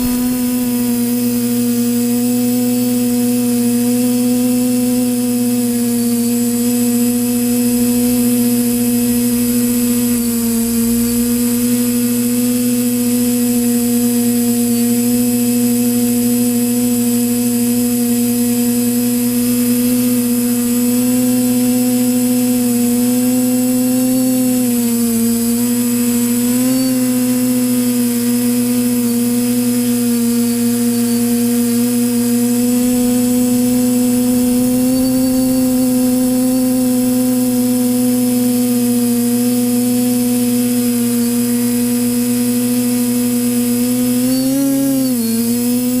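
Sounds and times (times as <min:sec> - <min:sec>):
quadcopter motors whining: 0:00.0 - 0:46.0.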